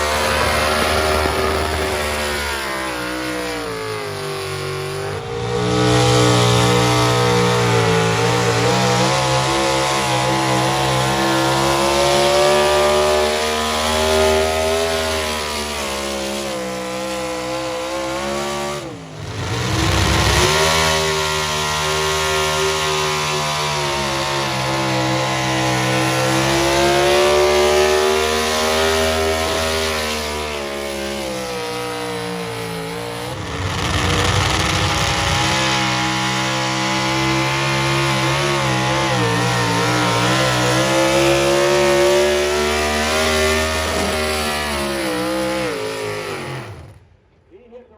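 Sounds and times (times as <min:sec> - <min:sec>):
engine running under load: 0:00.0 - 0:47.0.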